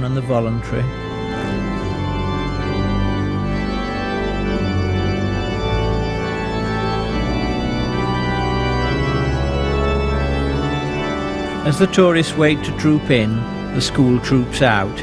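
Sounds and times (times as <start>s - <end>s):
pipe organ playing chords: 0.0s - 15.0s.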